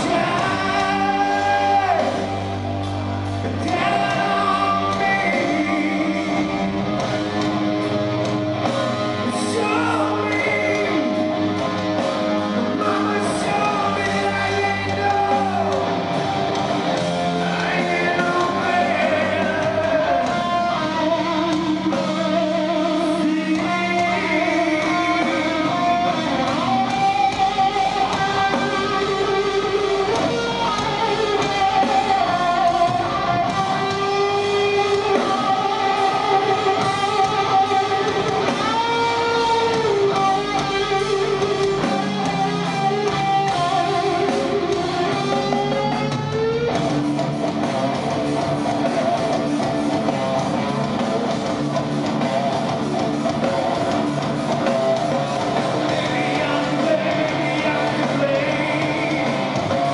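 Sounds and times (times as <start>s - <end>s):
bass guitar: 0.0s - 59.9s
drums: 0.0s - 59.9s
electric guitar melody: 0.0s - 59.9s.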